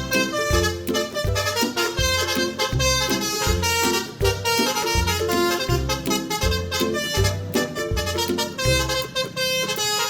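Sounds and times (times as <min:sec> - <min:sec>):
upbeat music with horn melody: 0:00.0 - 0:10.0.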